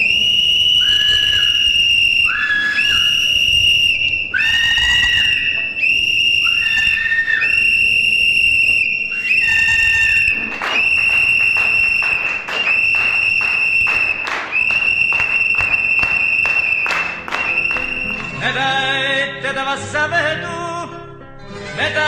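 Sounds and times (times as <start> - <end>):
second lower whistle tone: 0.0 - 18.4
whistle blasts: 0.0 - 18.4.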